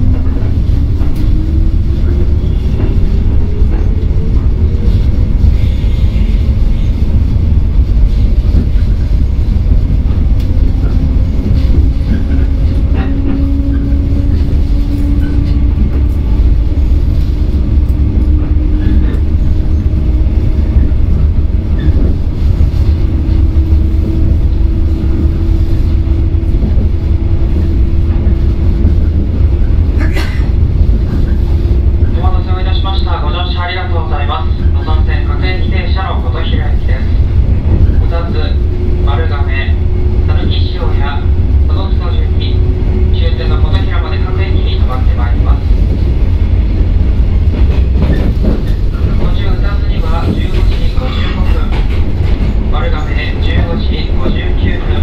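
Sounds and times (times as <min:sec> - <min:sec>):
train clicks: 0:00.0 - 0:55.0
train wheels rumbling on rail: 0:00.0 - 0:55.0.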